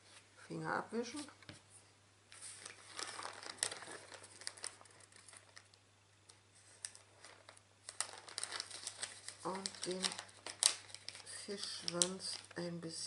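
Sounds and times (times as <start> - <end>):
paper rustling and crinkling: 2.3 - 13.0.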